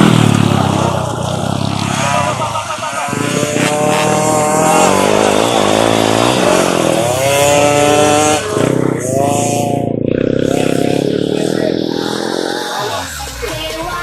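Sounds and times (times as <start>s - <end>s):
motorcycle engines revving hard: 0.0s - 14.0s.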